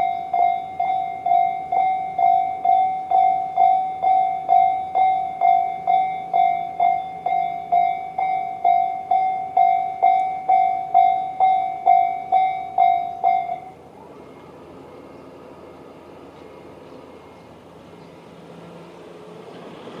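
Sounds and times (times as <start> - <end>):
level crossing warning bell dinging: 0.0 - 19.1.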